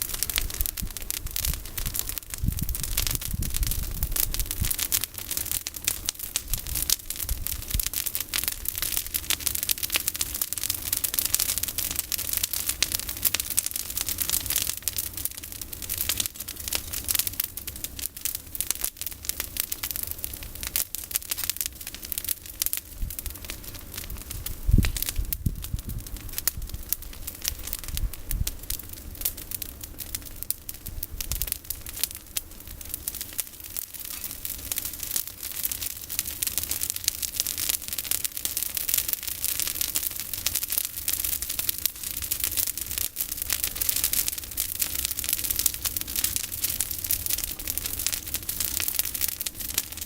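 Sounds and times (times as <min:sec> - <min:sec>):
campfire crackling and popping: 0:00.0 - 0:50.0
low fire rumble: 0:00.0 - 0:50.0.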